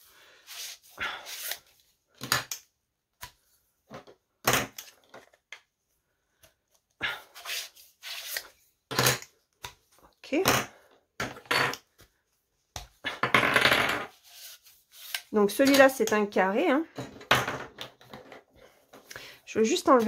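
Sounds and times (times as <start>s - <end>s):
plastic parts set on wooden desk: 0.4s - 5.8s, 6.4s - 16.2s, 16.9s - 20.0s.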